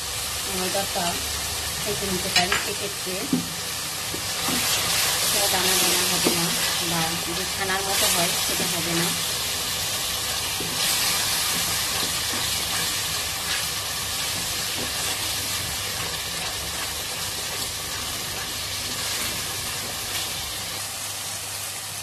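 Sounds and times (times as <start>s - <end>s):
masala sizzling in oil: 0.0s - 22.0s.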